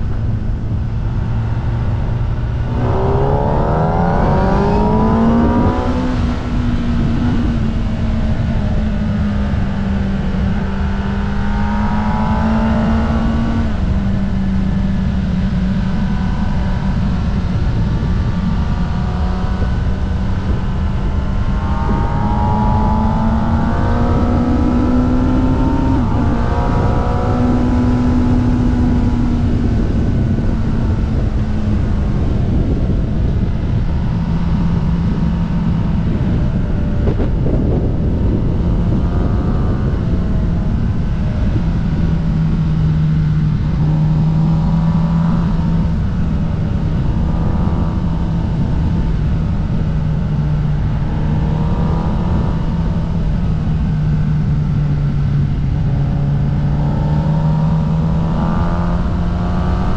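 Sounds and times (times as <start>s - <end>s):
motorcycle engine revving and shifting: 0.0s - 59.9s
wind rush on microphone: 0.0s - 59.9s.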